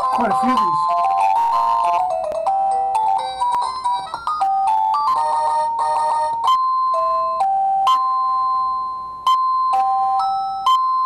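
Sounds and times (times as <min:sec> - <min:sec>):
doorbell chime melodies: 0:00.0 - 0:11.0.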